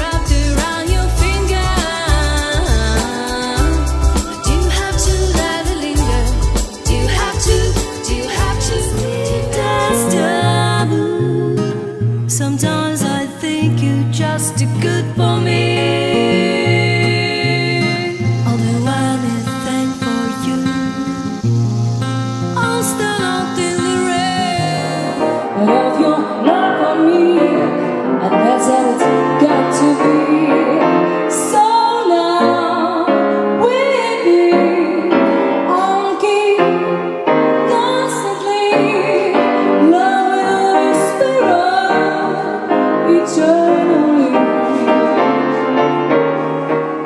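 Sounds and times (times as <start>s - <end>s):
woman singing: 0.0s - 21.4s, 22.6s - 45.6s
piano accompaniment: 0.0s - 47.0s.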